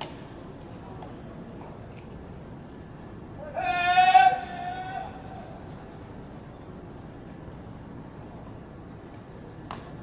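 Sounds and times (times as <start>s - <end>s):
quiet ballpark background noise: 0.0s - 10.0s.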